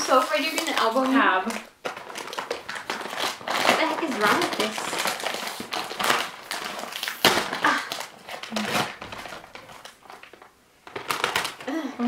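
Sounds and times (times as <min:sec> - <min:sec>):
bag tearing open: 0:00.0 - 0:11.7
snack bag crinkling: 0:00.0 - 0:11.9.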